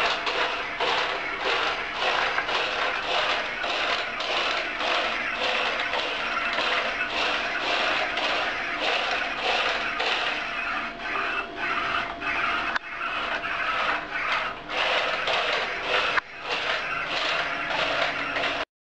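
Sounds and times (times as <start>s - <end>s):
robot motors whirring and scraping: 0.0s - 18.6s.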